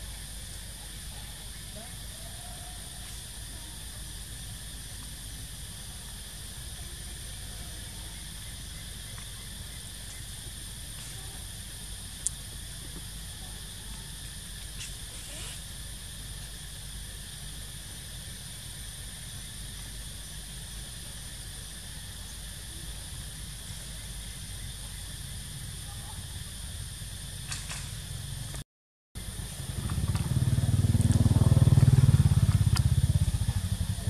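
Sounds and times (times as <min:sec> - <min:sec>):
high-pitched hiss: 0:00.0 - 0:28.6.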